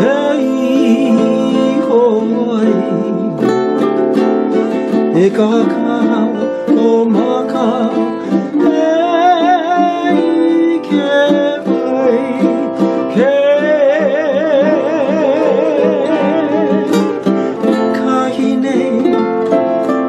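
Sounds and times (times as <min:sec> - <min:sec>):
man singing with vibrato: 0:00.0 - 0:20.0
strummed ukulele: 0:00.0 - 0:20.0.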